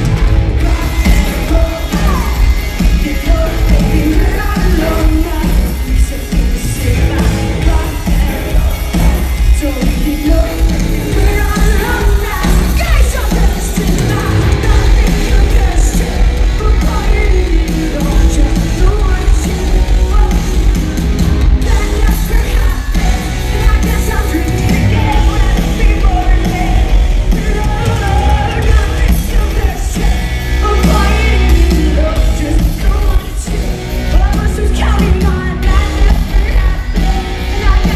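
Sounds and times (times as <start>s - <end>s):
live rock band playing: 0.0s - 37.9s
woman singing: 0.1s - 20.8s, 21.6s - 37.9s.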